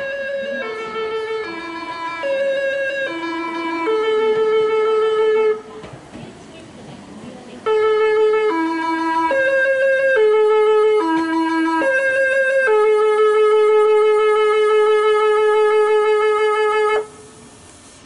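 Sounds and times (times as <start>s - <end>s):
train musical horn melody: 0.0s - 5.8s, 7.4s - 17.5s.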